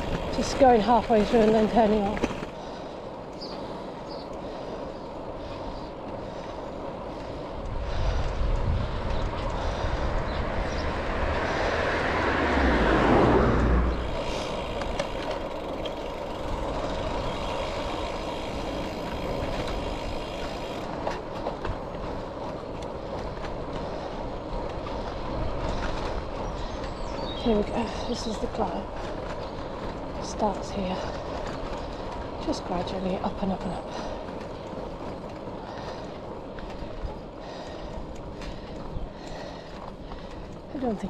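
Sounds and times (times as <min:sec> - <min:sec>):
bike tyre and wind noise: 0:00.0 - 0:41.0
rushing rumble: 0:00.0 - 0:41.0.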